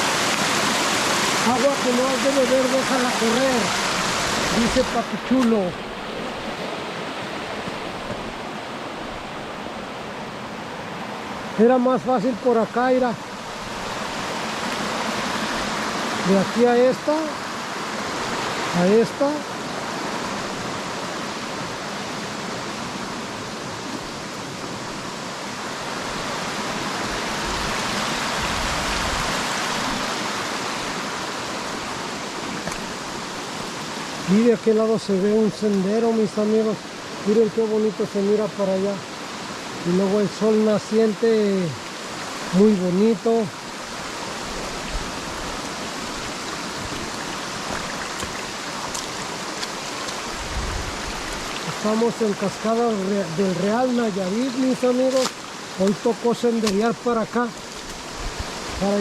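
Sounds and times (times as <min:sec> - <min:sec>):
water rushing down waterfall: 0:00.0 - 0:59.0.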